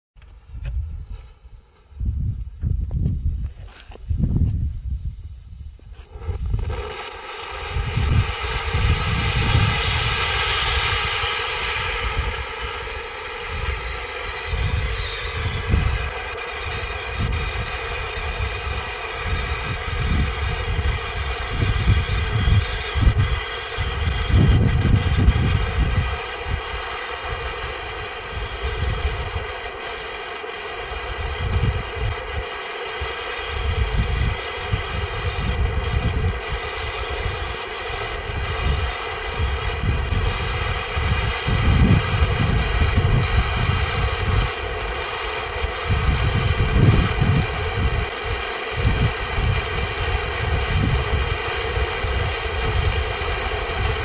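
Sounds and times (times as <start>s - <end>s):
wind buffeting microphone: 1.9s - 6.9s, 7.5s - 29.5s, 31.0s - 32.4s, 33.5s - 54.0s
firework fountain hissing: 2.4s - 54.0s.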